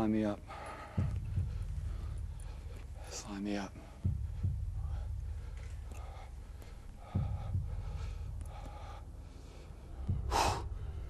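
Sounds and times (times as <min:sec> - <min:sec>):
low rumble: 0:01.0 - 0:03.2, 0:03.8 - 0:11.0.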